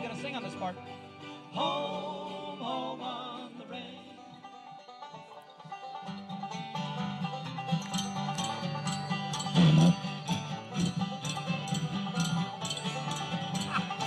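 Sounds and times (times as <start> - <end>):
bluegrass string band playing: 0.0 - 14.0.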